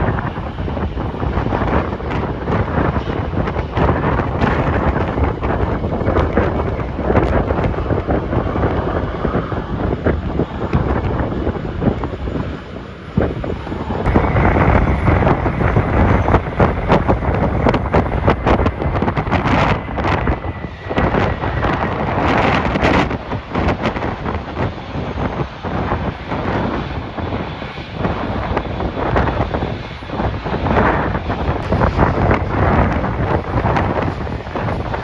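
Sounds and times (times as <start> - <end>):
gusty wind buffeting microphone: 0.0 - 35.0.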